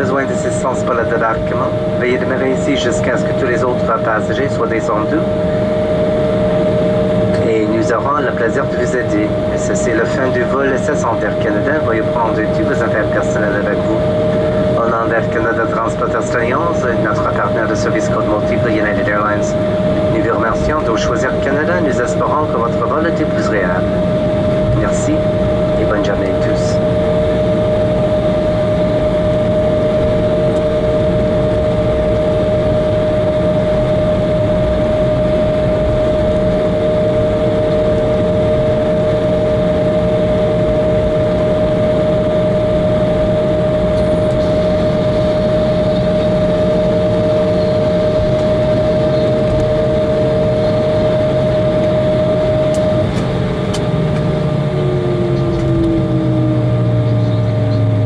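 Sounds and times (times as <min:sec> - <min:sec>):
jet cabin noise: 0:00.0 - 0:58.0
jet engines whining: 0:00.0 - 0:58.0.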